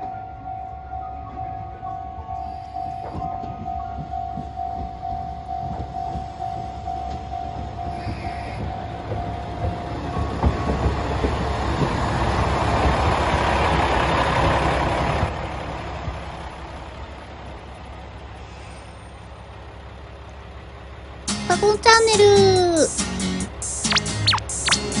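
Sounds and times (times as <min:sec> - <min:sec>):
diesel railcar passing: 0:00.0 - 0:25.0.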